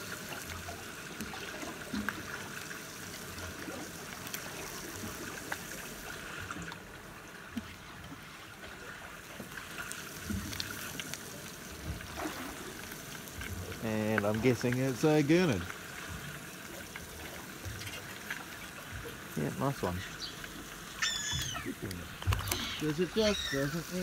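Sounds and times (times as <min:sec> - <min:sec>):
water lapping against boat: 0:00.0 - 0:24.0.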